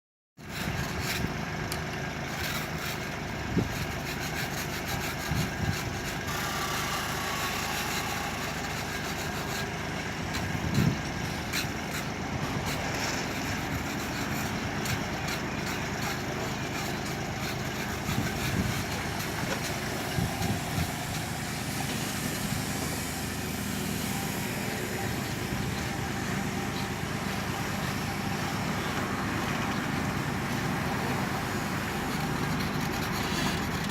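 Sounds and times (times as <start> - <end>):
excavator engine running: 0.4 - 33.9.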